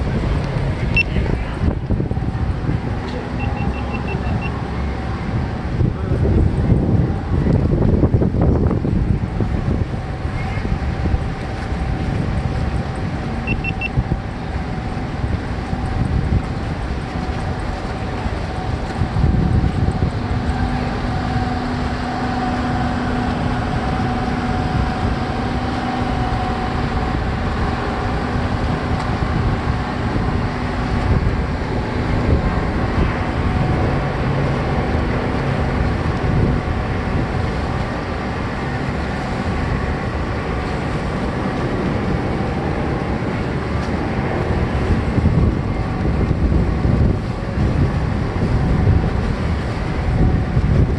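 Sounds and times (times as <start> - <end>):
boat engines droning: 0.0 - 50.9
gusty rumble: 0.0 - 50.9.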